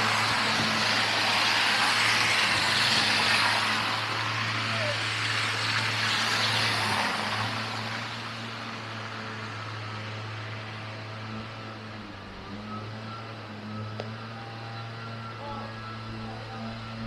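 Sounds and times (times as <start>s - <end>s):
passing car tyre noise: 0.0s - 17.0s.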